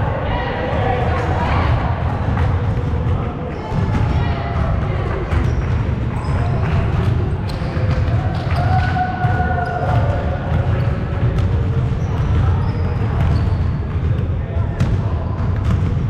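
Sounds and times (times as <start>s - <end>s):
voices: 0.0s - 15.9s.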